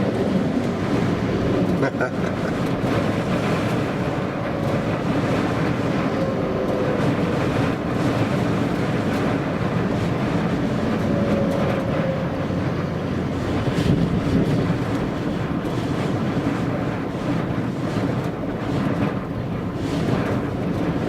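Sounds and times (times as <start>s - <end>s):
engine and road noise: 0.0s - 21.0s
wind buffeting: 0.0s - 21.0s.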